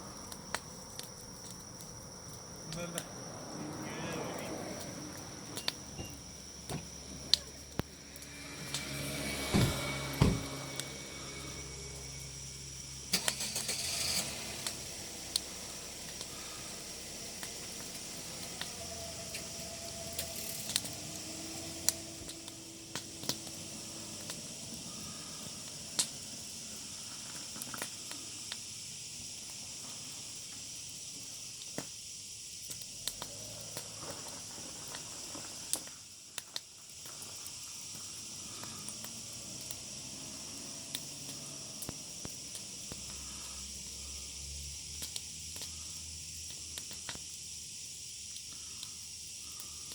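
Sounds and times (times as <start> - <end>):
steady high hiss: 0.0 - 49.9
wood fire crackling and popping: 0.0 - 49.9.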